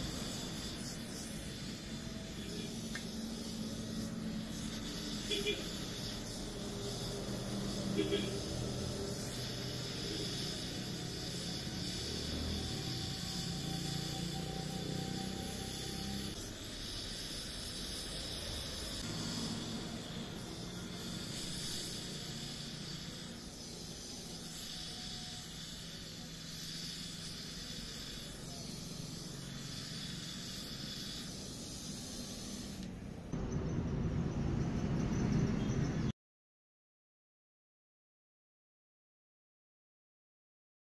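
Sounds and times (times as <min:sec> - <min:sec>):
welding torch flame hissing: 0:00.0 - 0:36.1.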